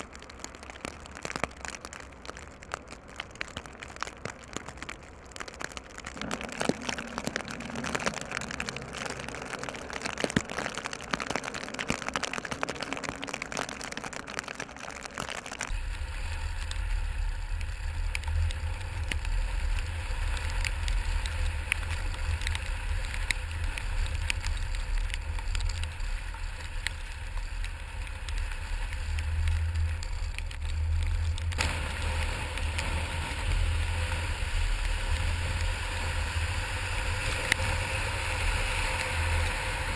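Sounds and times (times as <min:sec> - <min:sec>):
car road rumble: 0:00.0 - 0:39.9
crackling hiss of wet slush: 0:00.0 - 0:39.9.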